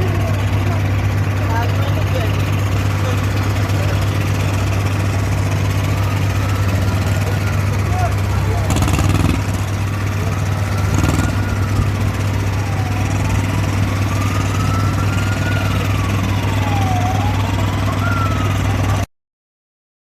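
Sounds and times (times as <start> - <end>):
engine running steadily: 0.0 - 19.0
siren wailing: 2.5 - 19.1.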